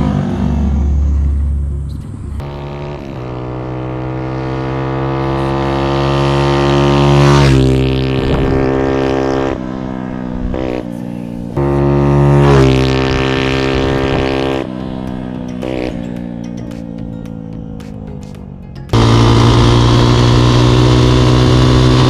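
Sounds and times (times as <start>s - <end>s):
minibike engine revving: 0.0s - 16.9s, 18.9s - 22.0s.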